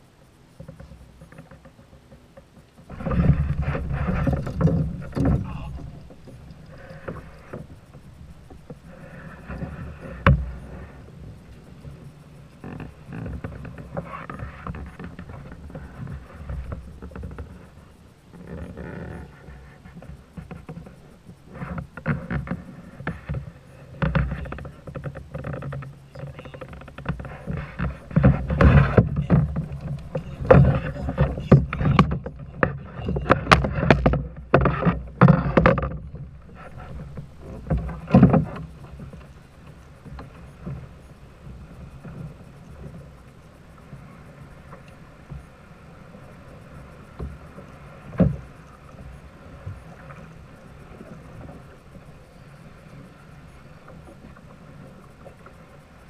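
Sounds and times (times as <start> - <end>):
water splashing: 0.0 - 20.2, 21.4 - 56.0
knocks and bumps on boat: 0.6 - 55.6.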